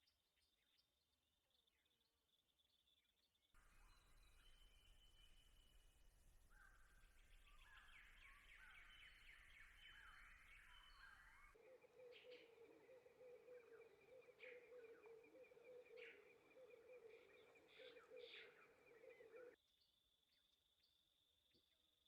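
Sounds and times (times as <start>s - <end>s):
faint bird chirping: 1.6s - 19.6s.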